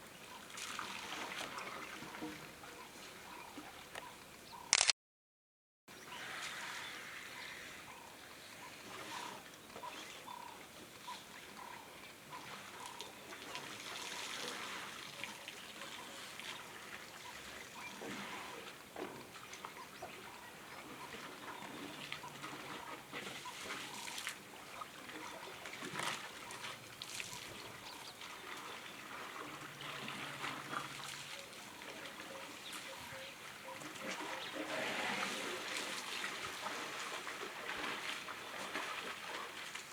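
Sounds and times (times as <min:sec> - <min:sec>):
water trickling and splashing: 0:00.0 - 0:04.4, 0:06.0 - 0:39.9.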